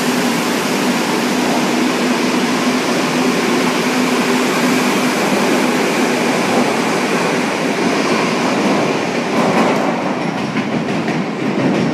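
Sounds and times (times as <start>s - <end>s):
electric train pulling out: 0.0s - 11.0s.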